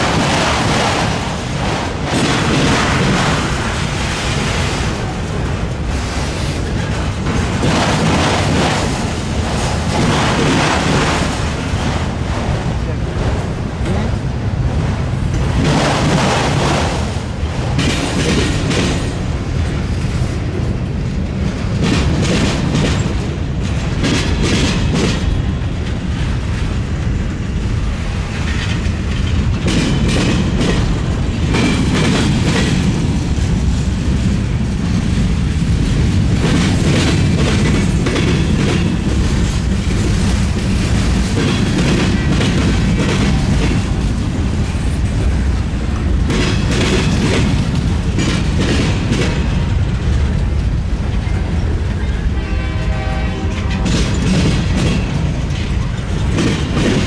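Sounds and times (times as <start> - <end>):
train low rumble: 0.0 - 57.0
train wheels clattering: 0.0 - 57.0.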